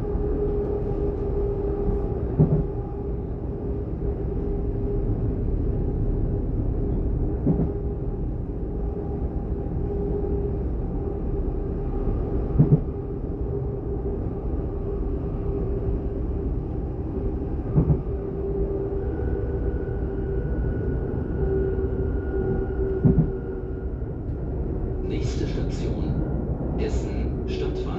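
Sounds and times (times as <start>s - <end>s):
train low rumble: 0.0s - 27.9s.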